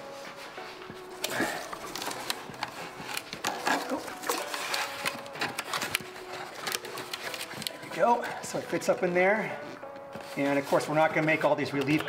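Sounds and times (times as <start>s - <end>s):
cardboard rustling and scraping: 0.0s - 11.6s.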